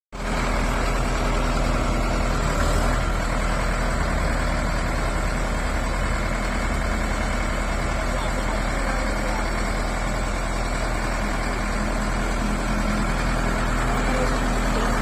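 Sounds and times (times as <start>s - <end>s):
diesel engine idling: 0.2s - 15.0s.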